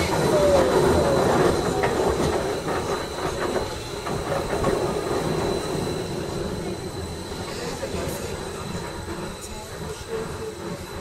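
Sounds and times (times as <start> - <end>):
train wheels clicking over track: 0.0 - 11.0.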